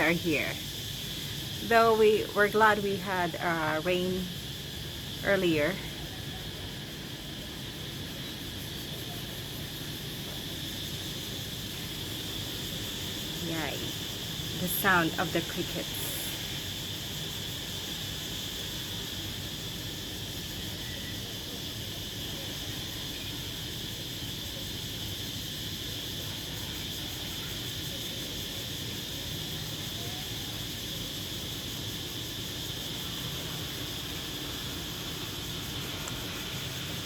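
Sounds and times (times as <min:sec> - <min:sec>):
crickets chirping: 0:00.0 - 0:37.0.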